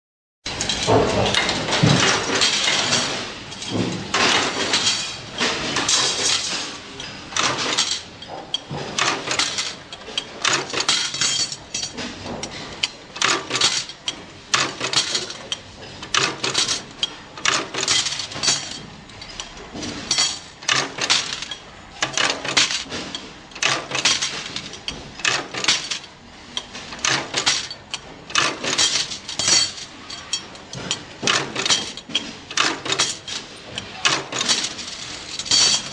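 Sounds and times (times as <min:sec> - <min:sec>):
riveting presses clanking: 0:00.5 - 0:35.9.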